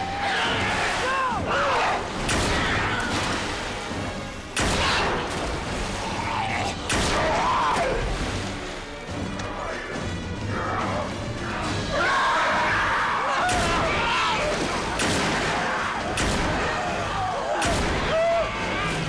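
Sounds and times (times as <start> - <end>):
dramatic film score: 0.0 - 19.0
water splashing: 0.0 - 19.0.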